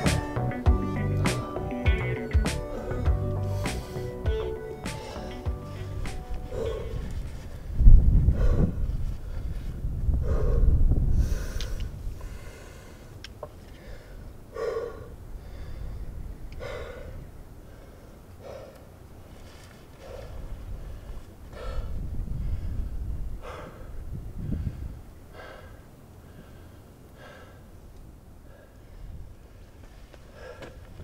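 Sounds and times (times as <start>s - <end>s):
climber straining exhalations: 2.6s - 27.7s, 29.7s - 31.0s.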